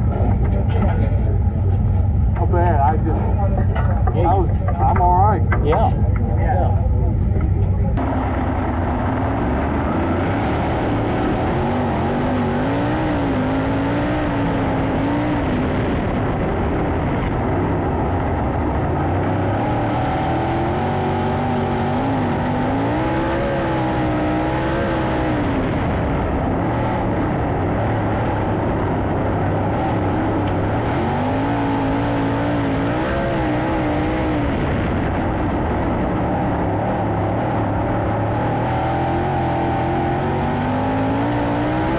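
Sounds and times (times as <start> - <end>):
racing car engines revving: 0.0 - 41.9.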